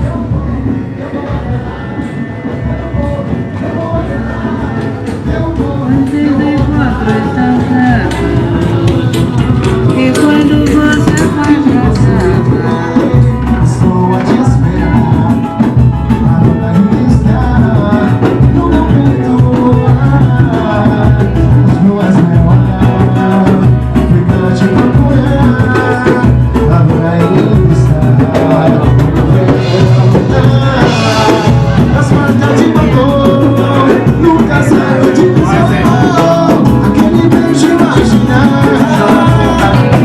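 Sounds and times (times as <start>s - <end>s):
person singing: 0.0s - 40.0s
samba band playing: 0.0s - 40.0s
steady percussion beat: 0.0s - 40.0s.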